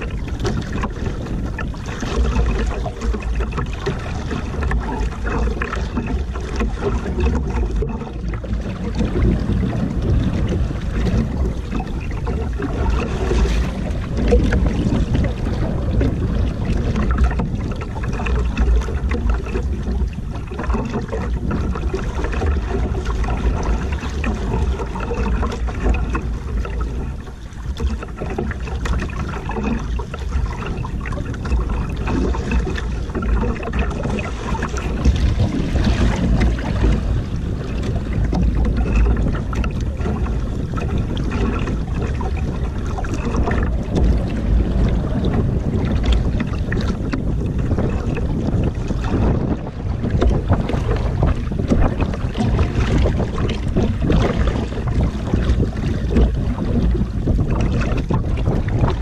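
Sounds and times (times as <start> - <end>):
water splashing against hull: 0.0 - 59.0
wind buffeting microphone: 0.0 - 59.0.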